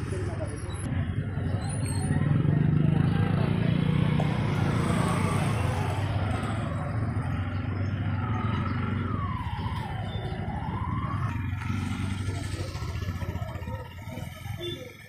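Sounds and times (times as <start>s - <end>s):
motorcycle engines in traffic: 0.0s - 15.0s.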